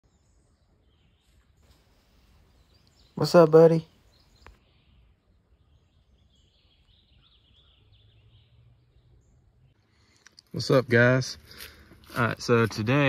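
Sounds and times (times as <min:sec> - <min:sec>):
faint bird chirps: 0:00.0 - 0:10.5.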